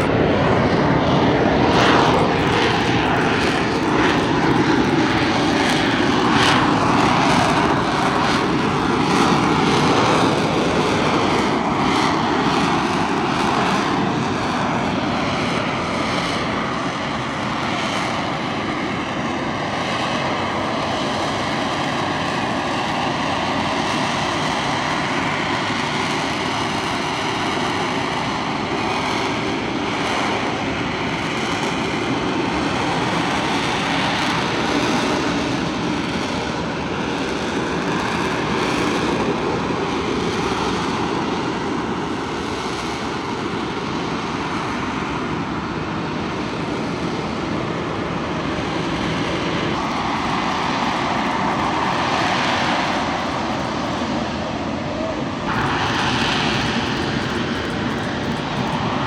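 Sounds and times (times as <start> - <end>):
aircraft engine running: 0.0 - 59.0.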